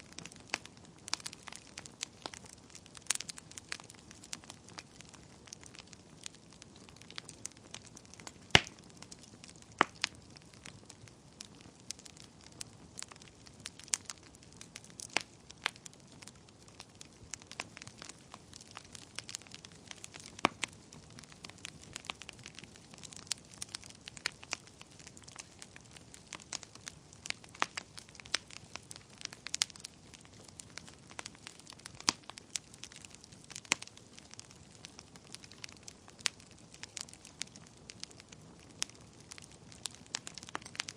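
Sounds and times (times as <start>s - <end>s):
soft hiss of fire: 0.0s - 40.9s
wood fire crackling and popping: 0.0s - 40.9s.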